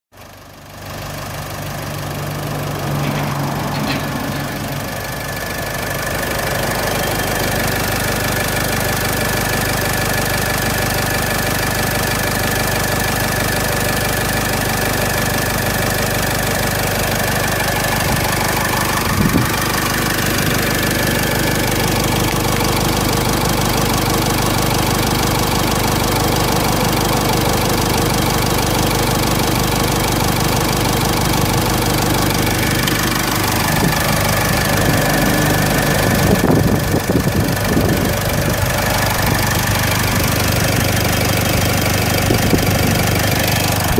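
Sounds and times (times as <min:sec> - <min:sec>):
diesel engine idling with clatter: 0:00.1 - 0:43.9.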